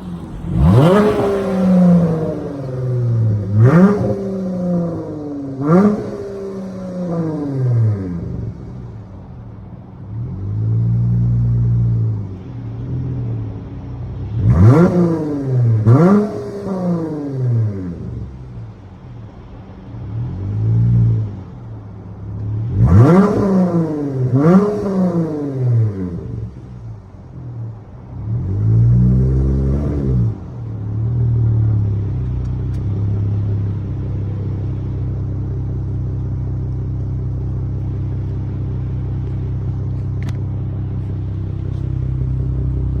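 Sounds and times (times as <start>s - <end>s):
car engine idling: 0.0s - 43.0s
car engine revving: 0.0s - 43.0s.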